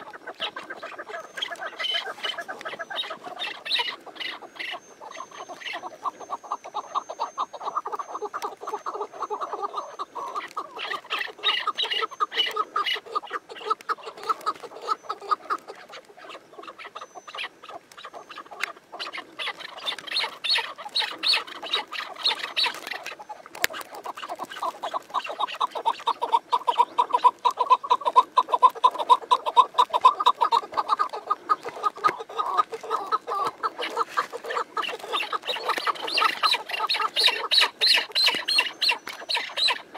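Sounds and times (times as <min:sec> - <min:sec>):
partridge calling: 0:00.0 - 0:39.9.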